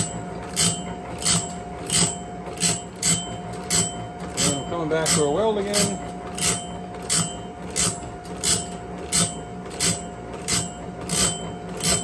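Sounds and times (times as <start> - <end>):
grinding wheel rasping: 0.0 - 12.0
motor hum: 0.0 - 12.0.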